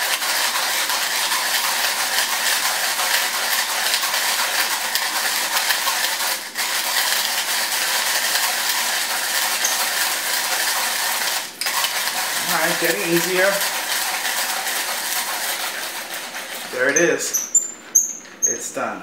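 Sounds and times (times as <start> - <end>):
coffee beans crunching in grinder: 0.0 - 17.3.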